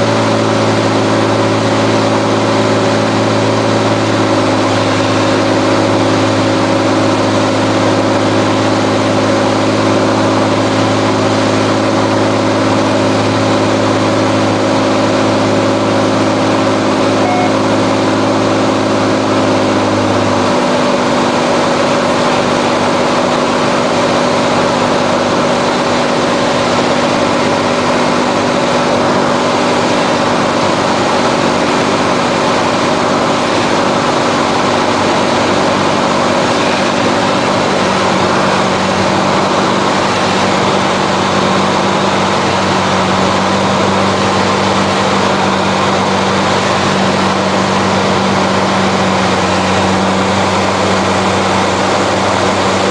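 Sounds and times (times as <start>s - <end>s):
propeller plane engine droning: 0.0s - 52.9s
rushing airflow: 0.0s - 52.9s.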